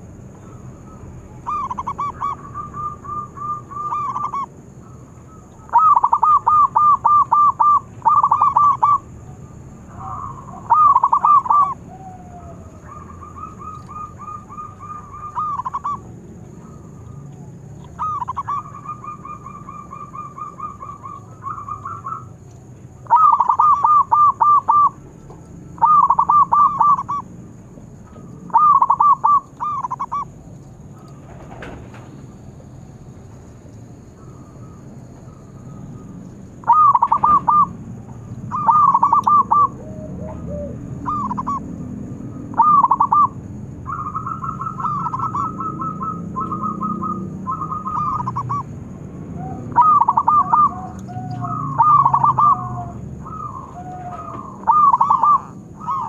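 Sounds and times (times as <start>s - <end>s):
doves cooing: 0.0s - 56.0s
lower bird voice: 0.0s - 56.0s.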